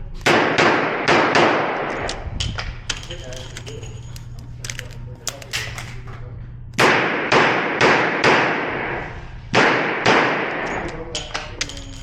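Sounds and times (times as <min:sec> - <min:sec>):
revolver shots echoing indoors: 0:00.0 - 0:12.0.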